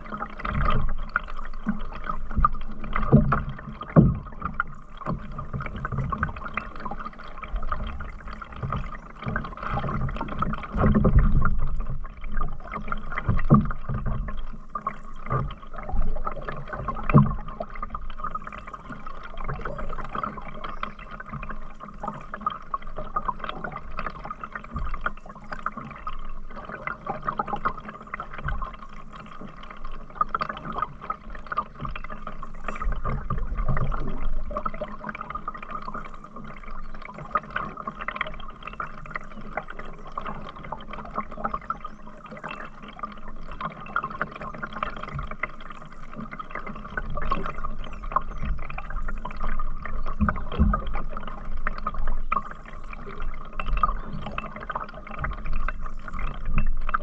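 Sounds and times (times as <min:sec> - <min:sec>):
water splashing around canoe: 0:00.0 - 0:57.0.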